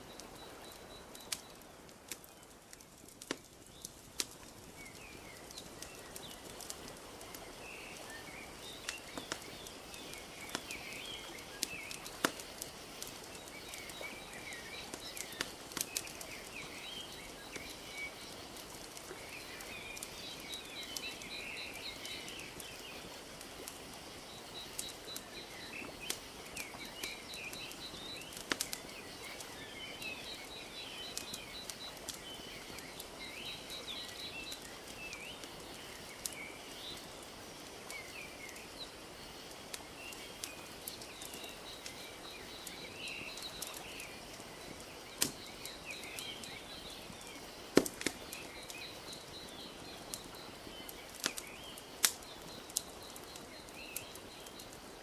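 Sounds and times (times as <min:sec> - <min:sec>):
small birds chirping: 0:00.0 - 0:55.0
wood fire crackling and popping: 0:00.0 - 0:55.0.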